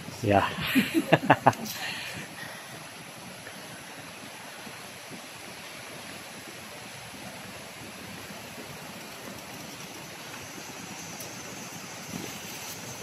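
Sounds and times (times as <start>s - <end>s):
outdoor rushing background noise: 0.0s - 13.0s.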